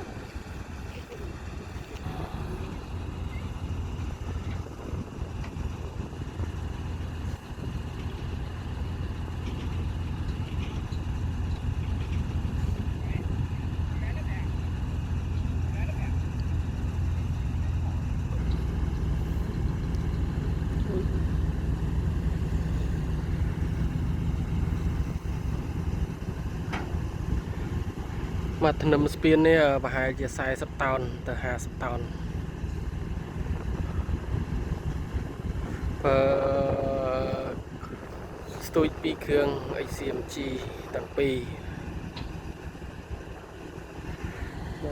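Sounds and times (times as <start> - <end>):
diesel engine low hum: 0.0 - 44.9.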